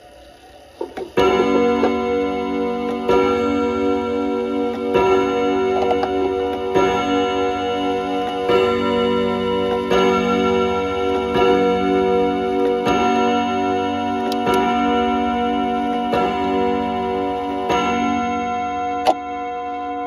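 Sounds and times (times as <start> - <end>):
wall clock chime on gong rods: 0.8 - 20.0.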